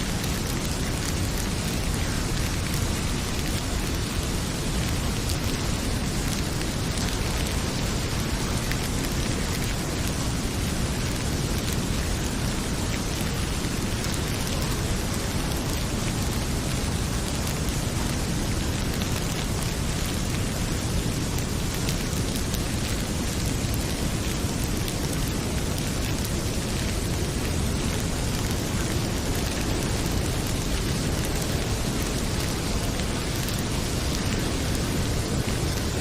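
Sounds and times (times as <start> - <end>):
heavy rain pouring: 0.0 - 36.0
wood fire crackling: 0.0 - 36.0.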